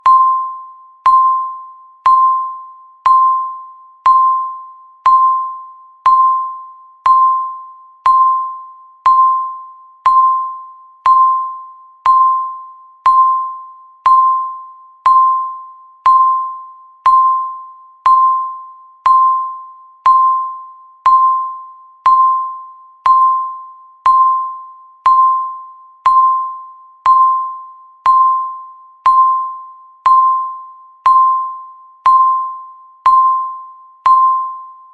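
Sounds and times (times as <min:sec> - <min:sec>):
countdown timer chime beeps: 0:00.0 - 0:34.9.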